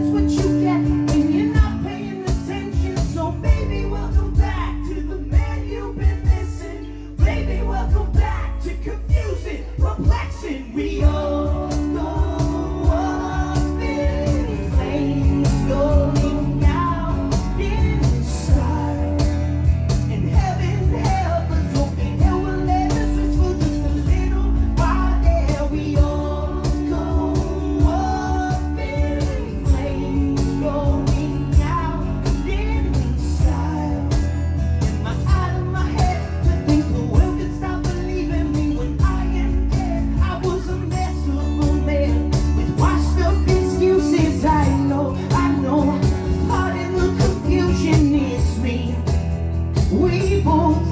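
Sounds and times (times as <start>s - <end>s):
acoustic guitar chords: 0.0s - 50.9s
person singing lead vocal: 0.0s - 50.9s.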